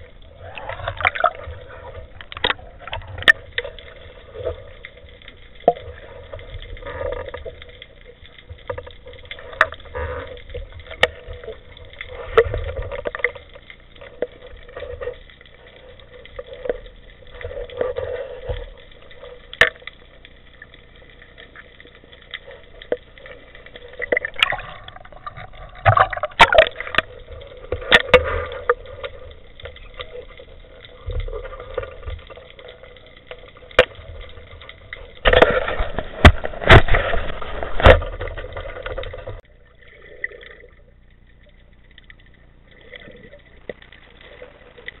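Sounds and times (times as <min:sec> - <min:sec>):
water swishing underwater: 0:00.0 - 0:45.0.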